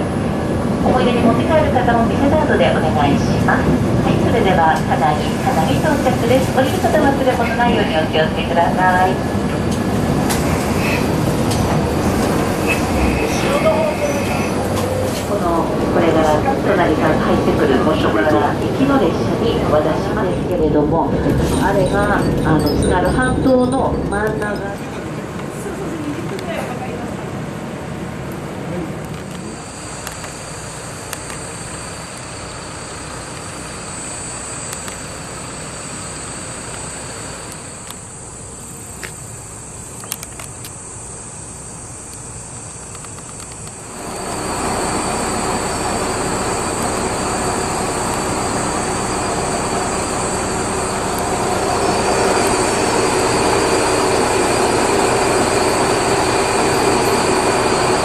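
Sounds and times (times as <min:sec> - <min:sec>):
diesel railcar engine: 0:00.0 - 0:58.0.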